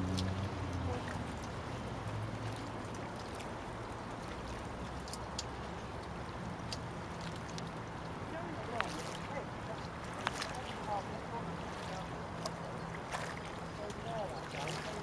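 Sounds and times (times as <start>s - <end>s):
seawater sloshing among rocks: 0.0s - 15.0s.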